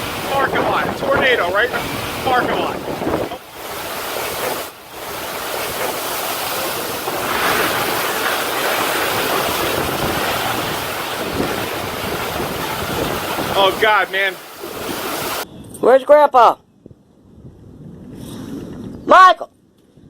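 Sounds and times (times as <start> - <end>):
strong wind on microphone: 0.0 - 15.8, 16.7 - 20.0.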